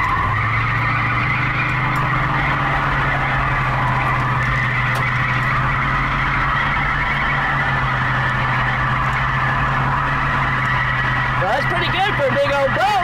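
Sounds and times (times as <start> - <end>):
car engine at high revs: 0.0 - 13.0
tires spinning on pavement: 0.0 - 13.0.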